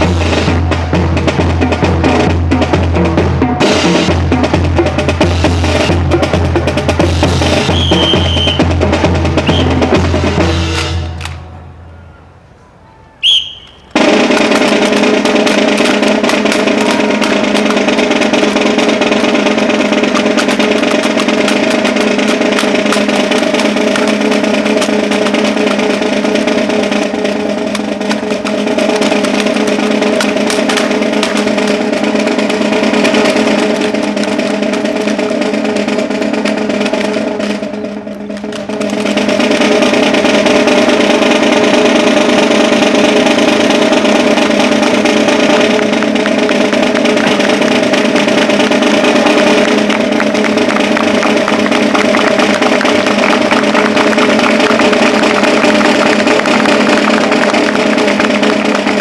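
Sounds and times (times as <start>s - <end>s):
snare drum roll: 0.0s - 11.5s, 13.2s - 59.0s.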